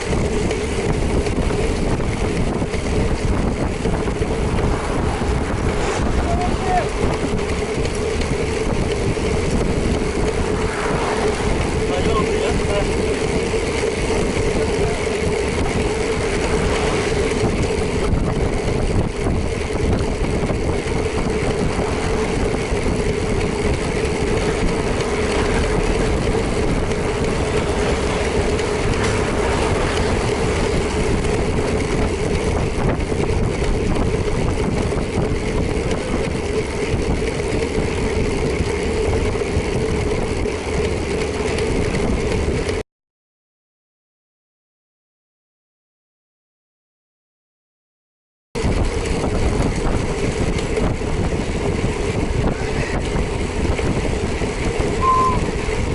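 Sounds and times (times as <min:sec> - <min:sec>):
motorcycle engine droning: 0:00.0 - 0:42.8, 0:48.6 - 0:55.9
wind and road noise: 0:00.0 - 0:42.8, 0:48.6 - 0:55.9.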